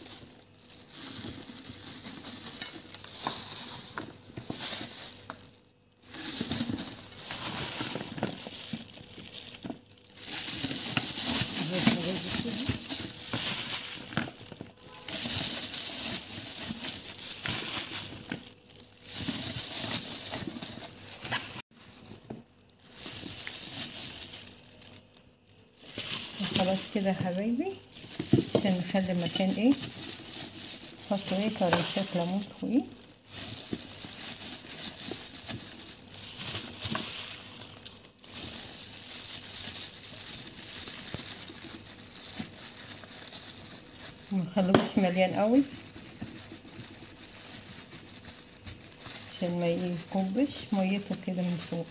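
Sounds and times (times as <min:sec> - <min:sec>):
plastic glove crinkling: 0:00.0 - 0:51.9
vegetables rustling and knocking: 0:00.0 - 0:51.9.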